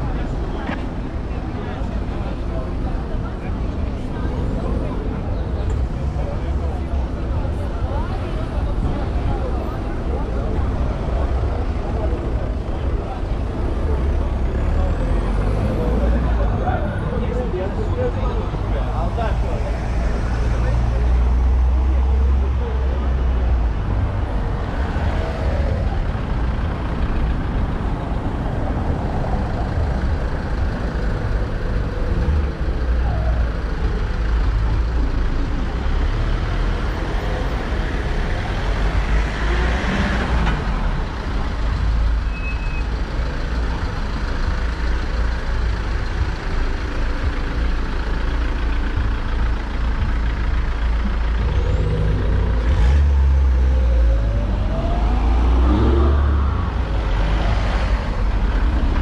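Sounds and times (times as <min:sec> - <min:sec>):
vehicle engines running: 0:00.0 - 0:59.0.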